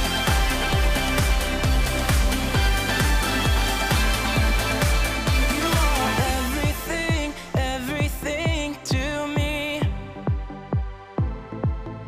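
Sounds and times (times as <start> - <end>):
person singing: 0.0 - 10.4
electronic kick drum: 0.0 - 12.0.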